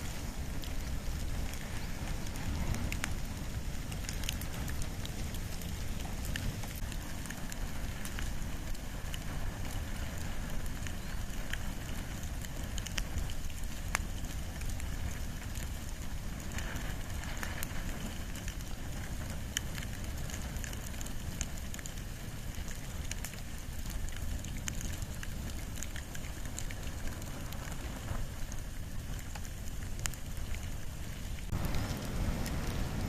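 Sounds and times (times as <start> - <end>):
fire crackling and popping: 0.0 - 33.0
fire rushing: 0.0 - 33.0.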